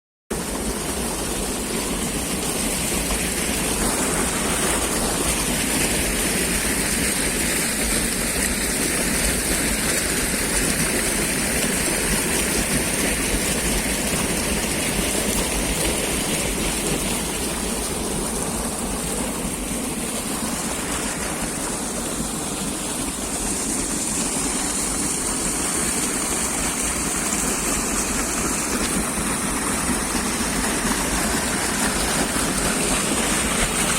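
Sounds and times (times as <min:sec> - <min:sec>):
stream water rushing: 0:00.3 - 0:33.9.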